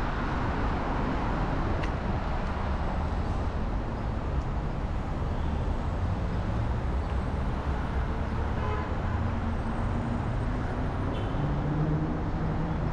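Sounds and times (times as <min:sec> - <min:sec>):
city road traffic rumble: 0:00.0 - 0:12.9.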